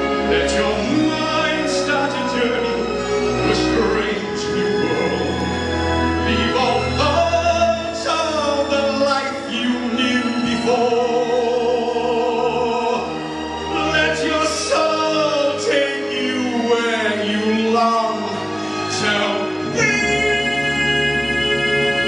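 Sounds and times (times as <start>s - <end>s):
backing music: 0.0s - 22.0s
man singing with vibrato: 0.0s - 22.0s.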